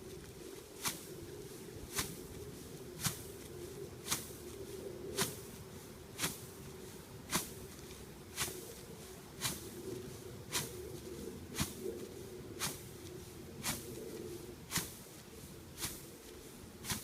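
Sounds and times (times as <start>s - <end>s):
crimper crushing rye stalks: 0.0s - 10.8s, 11.4s - 17.0s.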